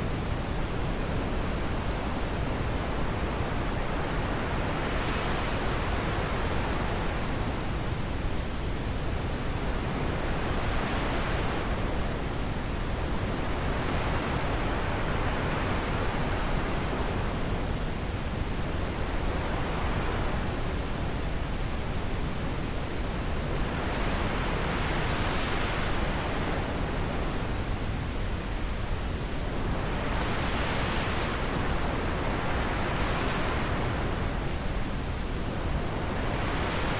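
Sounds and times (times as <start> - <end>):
wind noise: 0.0 - 36.9.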